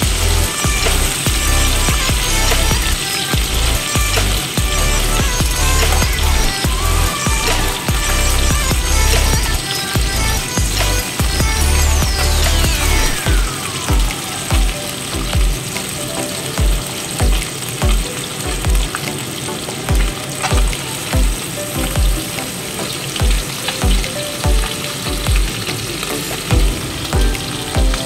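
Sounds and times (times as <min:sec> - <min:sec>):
low regular thumping beat: 0:00.0 - 0:15.6, 0:16.6 - 0:19.0, 0:19.9 - 0:22.2, 0:23.2 - 0:25.6, 0:26.5 - 0:28.0.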